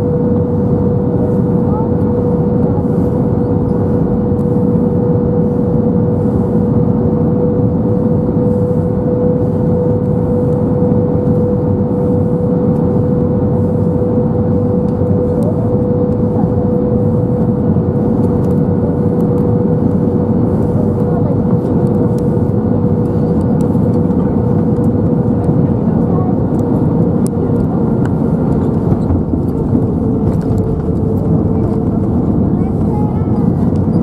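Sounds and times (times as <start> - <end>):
engine and airflow rush: 0.0 - 34.0.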